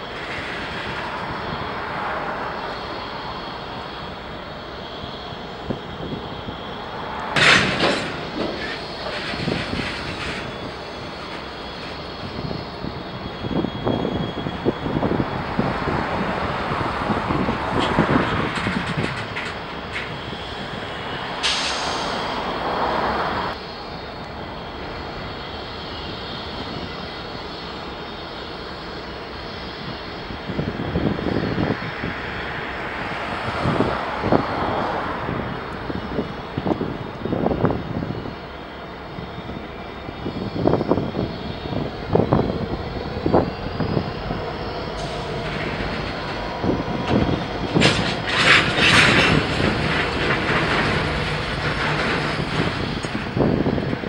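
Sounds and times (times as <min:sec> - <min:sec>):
diesel locomotive drone: 0:00.0 - 0:54.0
railcar clanks and knocks: 0:00.0 - 0:54.0.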